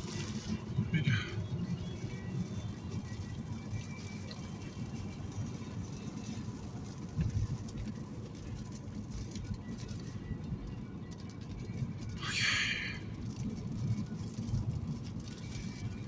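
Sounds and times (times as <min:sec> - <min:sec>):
vehicle rumbling on the move: 0:00.0 - 0:16.0.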